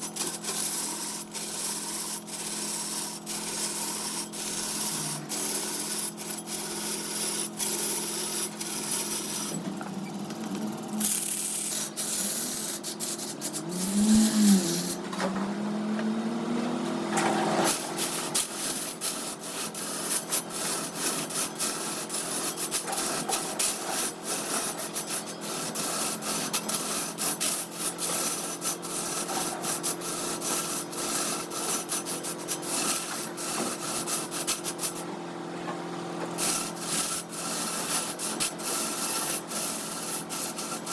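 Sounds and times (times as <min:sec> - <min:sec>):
sandpaper hissing on spinning wood: 0:00.0 - 0:09.7, 0:10.4 - 0:15.0, 0:17.7 - 0:35.1, 0:36.4 - 0:40.9.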